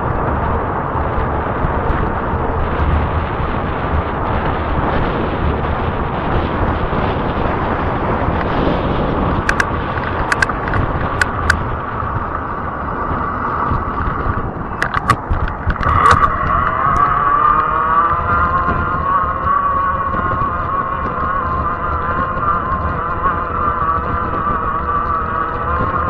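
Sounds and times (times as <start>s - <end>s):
bike clicks and rattles: 0.0s - 26.0s
thin whine: 0.0s - 26.0s
tires rolling on pavement: 0.0s - 26.0s
wind rushing over microphone: 0.0s - 26.0s.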